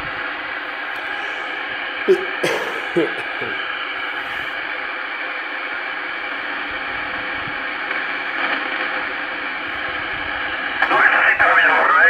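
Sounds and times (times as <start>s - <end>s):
radio receiver static hiss: 0.0s - 12.0s.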